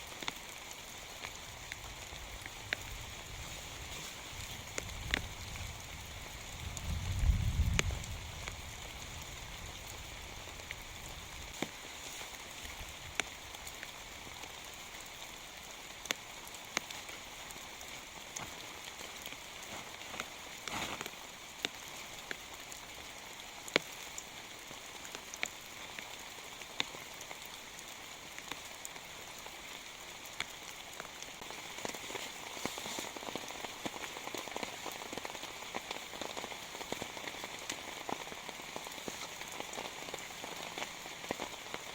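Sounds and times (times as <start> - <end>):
raindrops ticking close by: 0.0 - 41.9
steady rain falling: 0.0 - 41.9.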